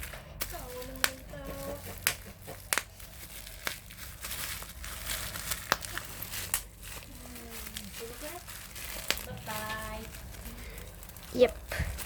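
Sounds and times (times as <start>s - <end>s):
bubble wrap bubbles popping: 0.0s - 12.0s
bubble wrap crinkling: 0.0s - 12.0s.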